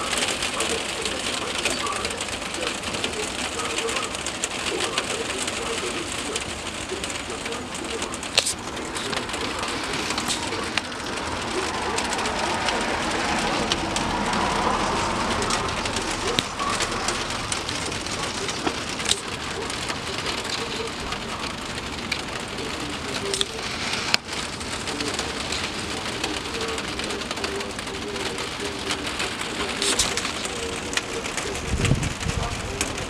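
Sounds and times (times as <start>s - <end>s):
raindrops tapping: 0.0s - 33.0s
steady rain hiss: 0.0s - 33.0s.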